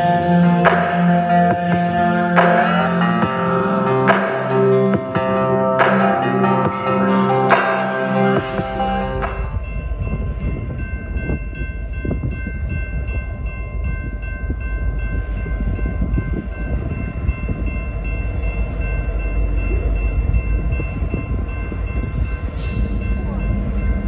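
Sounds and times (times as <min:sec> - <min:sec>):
diesel locomotive rumble: 0:00.0 - 0:24.0.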